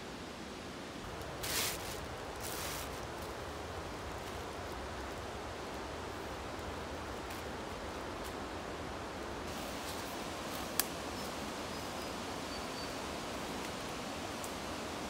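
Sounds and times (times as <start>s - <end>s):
forest background hiss: 0.0s - 15.0s.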